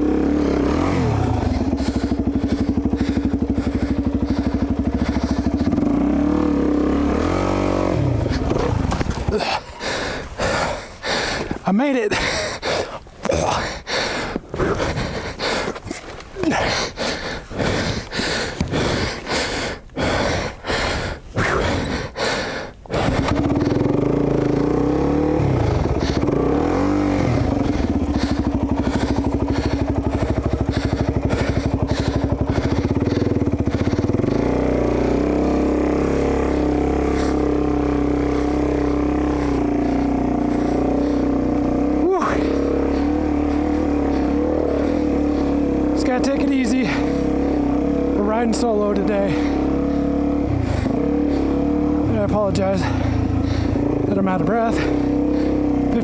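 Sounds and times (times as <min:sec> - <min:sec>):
dirt bike engine idling: 0:00.0 - 0:56.0
heavy panting breaths: 0:00.0 - 0:56.0.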